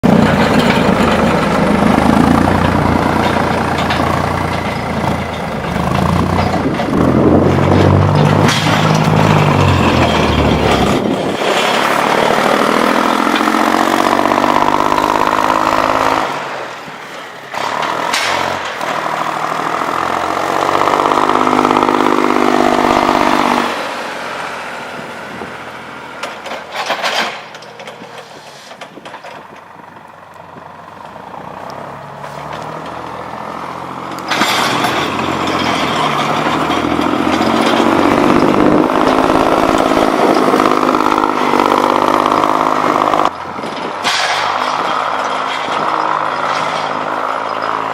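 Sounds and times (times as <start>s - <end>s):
forklift engine revving: 0.0s - 27.0s, 28.8s - 47.9s.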